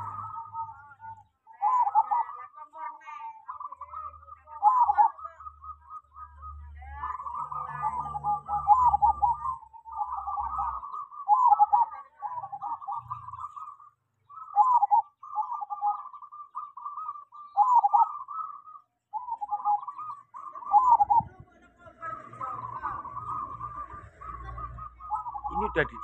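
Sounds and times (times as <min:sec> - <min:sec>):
dove cooing: 0:00.0 - 0:26.0.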